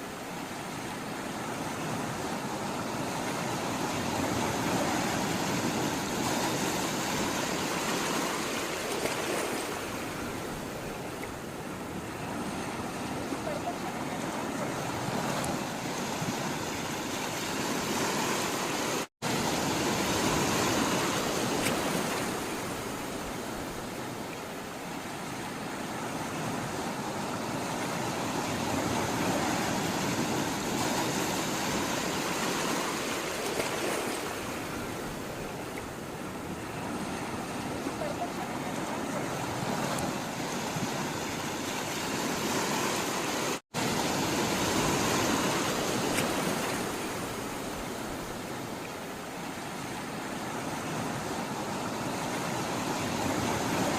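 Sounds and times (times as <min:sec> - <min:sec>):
sea waves washing: 0:00.0 - 0:53.9.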